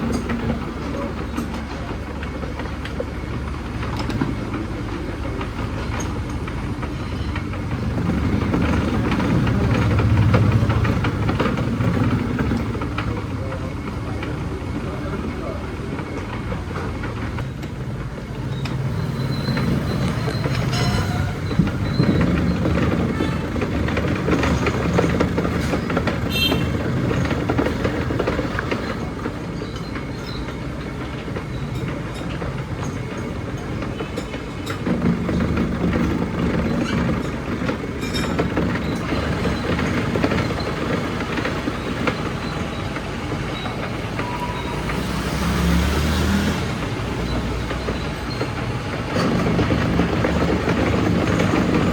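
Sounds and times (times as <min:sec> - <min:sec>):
workshop machinery rumbling: 0:00.0 - 0:51.9.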